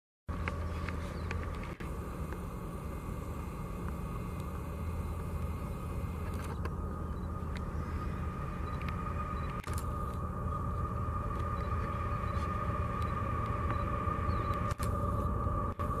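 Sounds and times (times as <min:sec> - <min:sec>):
diesel locomotive drone: 0:00.3 - 0:16.0
high whine: 0:00.3 - 0:16.0.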